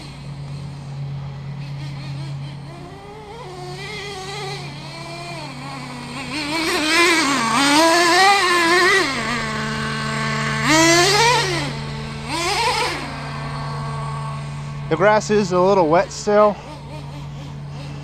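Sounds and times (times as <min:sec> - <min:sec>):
nitro rc truck engine revving: 0:00.0 - 0:18.0.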